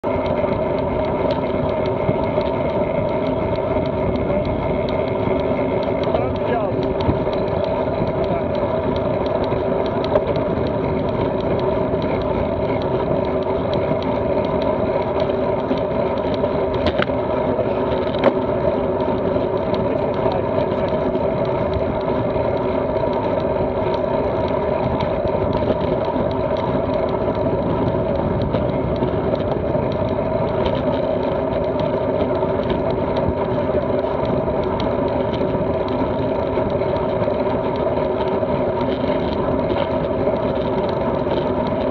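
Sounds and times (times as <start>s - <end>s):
bicycle tyres on gravel: 0.0s - 41.9s
faint clicks: 0.0s - 41.9s
wind noise: 0.0s - 41.9s.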